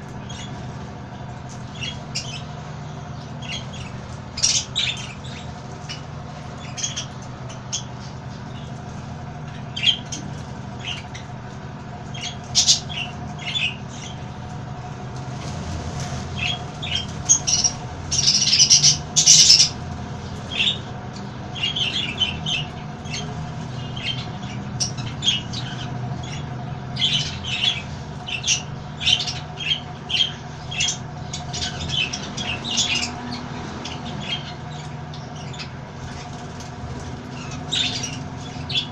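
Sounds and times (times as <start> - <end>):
steady low hum: 0.0 - 38.9
parrots squawking: 1.6 - 2.6, 3.2 - 8.8, 9.4 - 11.3, 12.0 - 14.3, 16.3 - 19.8, 20.4 - 38.9.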